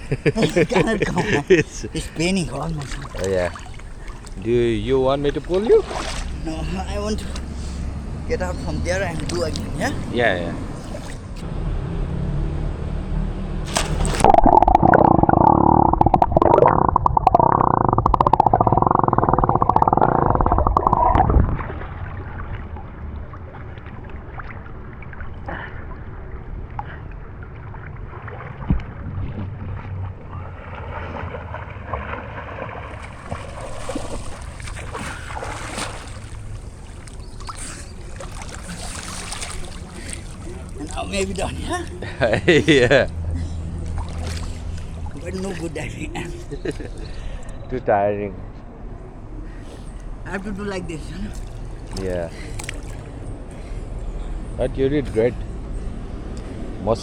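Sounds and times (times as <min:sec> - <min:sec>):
water sloshing and gurgling: 0:00.0 - 0:11.5, 0:13.5 - 0:56.8.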